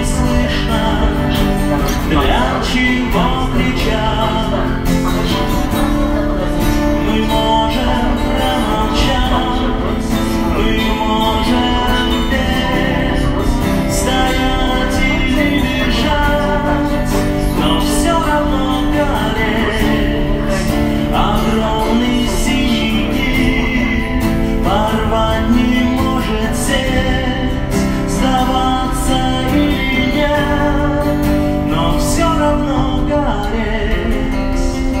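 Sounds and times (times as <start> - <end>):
guitar chords: 0.0 - 35.0
man singing: 0.0 - 35.0.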